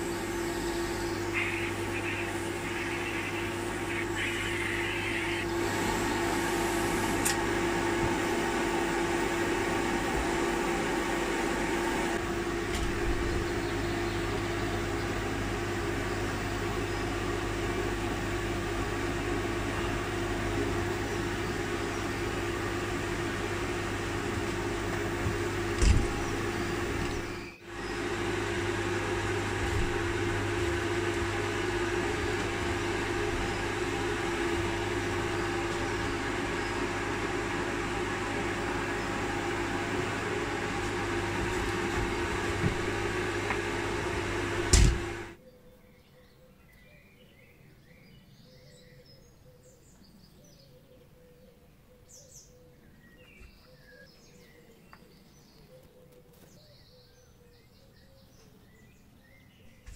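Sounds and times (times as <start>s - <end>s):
mechanical fan hum: 0.0s - 45.5s, 52.1s - 59.9s.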